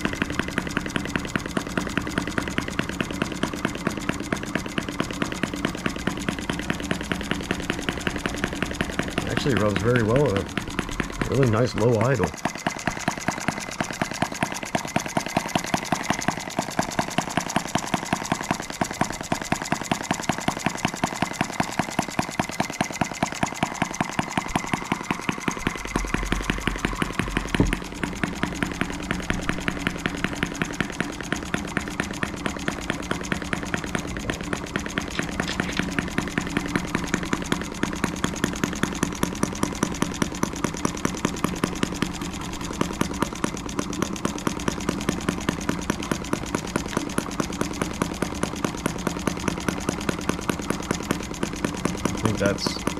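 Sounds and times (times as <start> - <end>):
model engine idling: 0.0 - 52.9.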